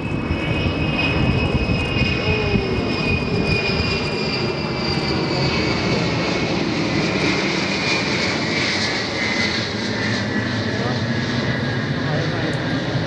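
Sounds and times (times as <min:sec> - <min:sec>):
airplane engine rumble and whine: 0:00.0 - 0:13.0.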